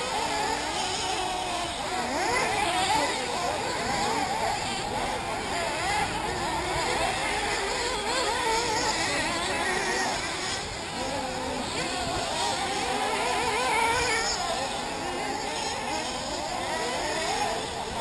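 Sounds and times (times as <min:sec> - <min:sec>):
rc buggy engines buzzing: 0:00.0 - 0:18.0.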